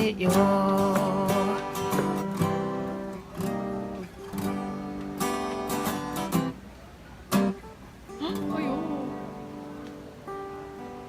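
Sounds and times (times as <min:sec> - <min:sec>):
strummed acoustic guitar chords: 0:00.0 - 0:06.6, 0:07.3 - 0:11.0.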